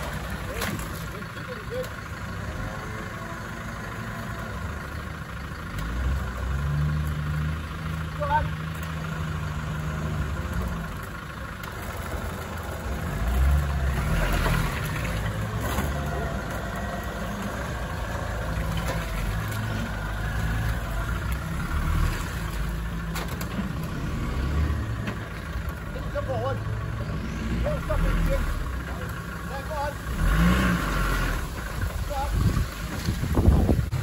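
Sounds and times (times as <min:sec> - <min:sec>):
engine running at low revs: 0:00.0 - 0:34.0.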